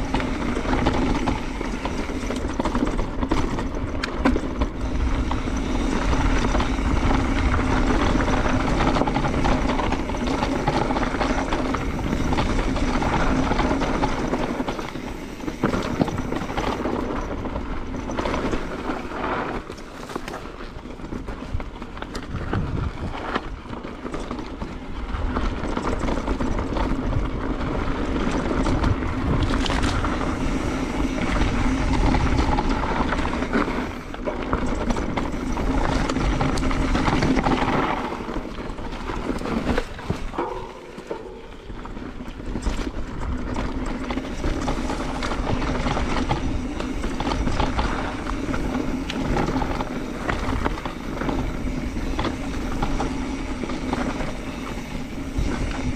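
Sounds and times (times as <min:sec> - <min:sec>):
bike rattling over bumps: 0:00.0 - 0:55.9
bike tyres on dirt trail: 0:00.0 - 0:55.9
wind rumble on microphone: 0:00.0 - 0:55.9.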